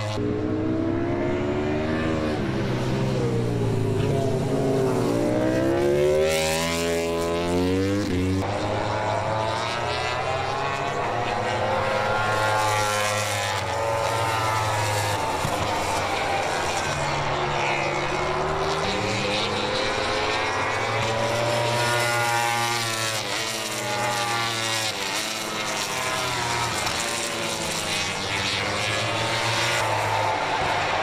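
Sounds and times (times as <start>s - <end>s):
racing motorcycle engines revving: 0.0s - 31.0s.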